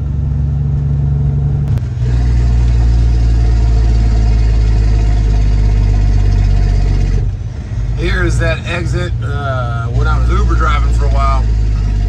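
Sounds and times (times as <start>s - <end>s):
truck engine drone from cab: 0.0s - 12.0s.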